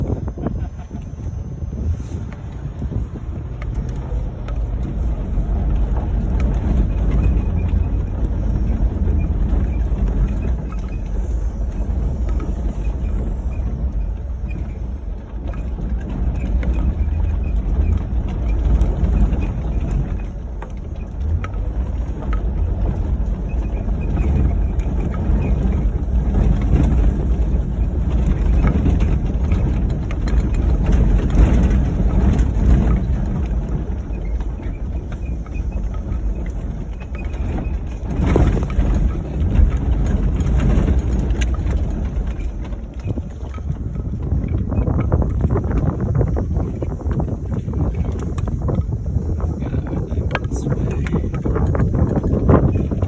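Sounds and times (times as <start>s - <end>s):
car engine rumble: 0.0s - 53.0s.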